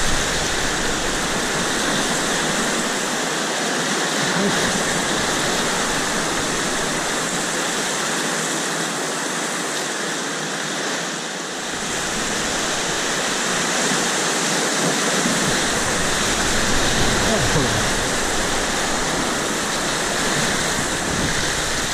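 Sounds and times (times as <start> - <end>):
whitewater rushing: 0.0 - 21.9.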